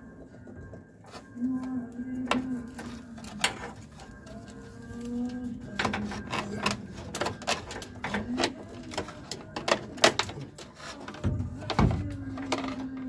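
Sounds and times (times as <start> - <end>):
plastic and metal parts clicking: 2.3 - 13.0.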